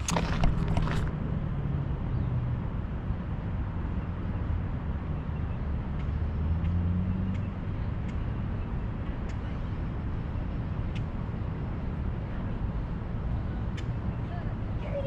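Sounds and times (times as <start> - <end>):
low rumble of traffic: 0.0 - 15.0
passing vehicles engine hum: 0.0 - 15.0.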